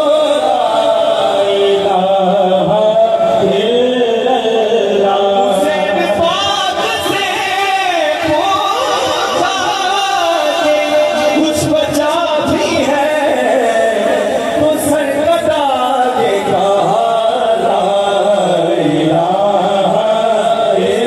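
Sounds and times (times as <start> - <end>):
men singing together: 0.0 - 21.0.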